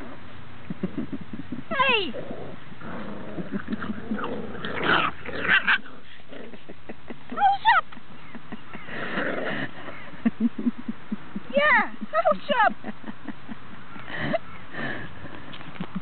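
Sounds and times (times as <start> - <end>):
puppies growling and scuffling: 0.0 - 12.2, 13.2 - 16.0.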